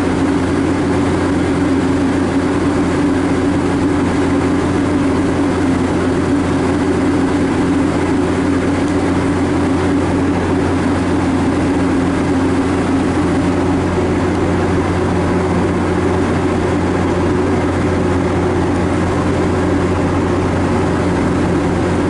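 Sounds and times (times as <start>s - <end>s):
train engine humming: 0.0s - 22.0s.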